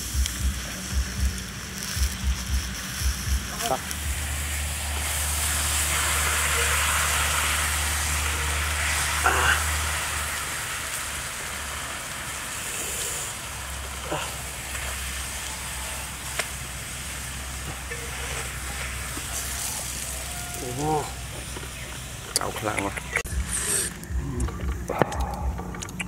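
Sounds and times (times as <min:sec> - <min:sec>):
comb frying in hot oil: 0:00.0 - 0:26.0.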